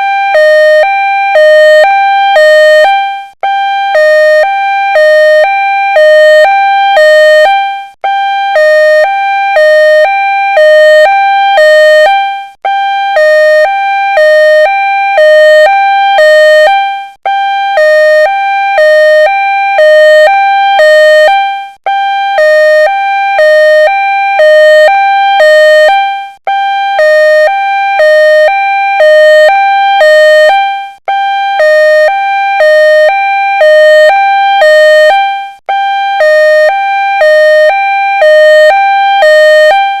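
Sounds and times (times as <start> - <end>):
two-tone ambulance siren: 0.0 - 40.0.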